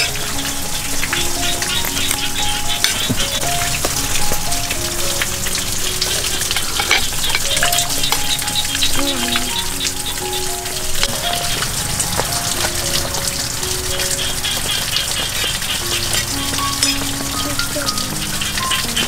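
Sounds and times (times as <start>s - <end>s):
crackling hiss with clicks: 0.0s - 19.0s
soft background music: 0.0s - 19.0s.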